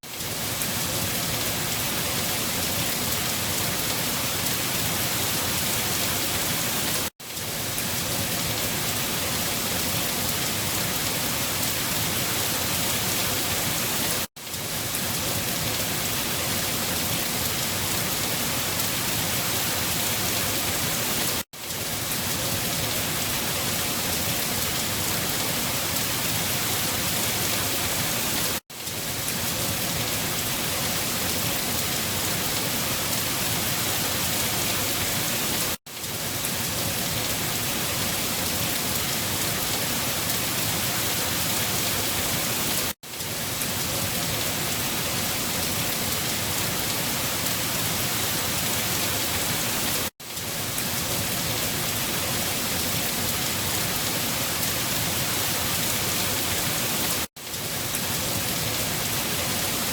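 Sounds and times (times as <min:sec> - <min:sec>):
dense rainfall: 0:00.0 - 0:59.9.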